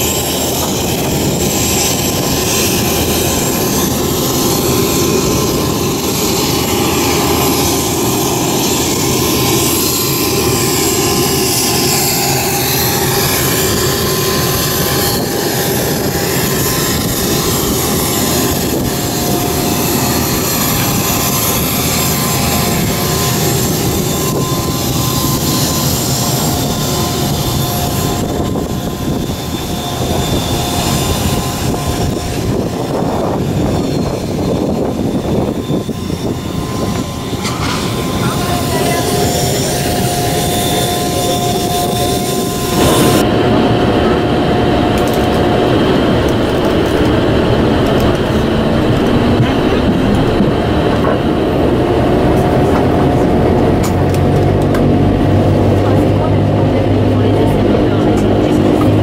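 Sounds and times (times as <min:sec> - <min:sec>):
turboprop turbine whine and rumble: 0:00.0 - 0:59.0.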